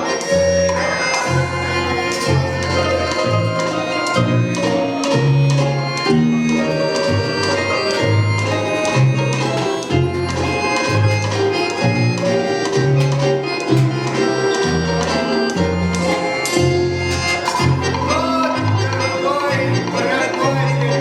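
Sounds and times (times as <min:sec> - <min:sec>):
instrumental music with bass line: 0:00.0 - 0:21.0.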